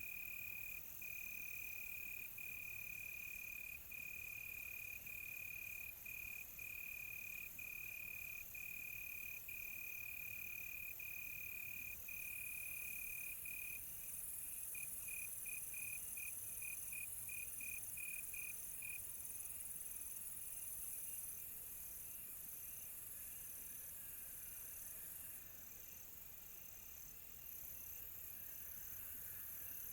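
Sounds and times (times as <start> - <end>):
cricket trilling and chirping: 0.0 - 29.9.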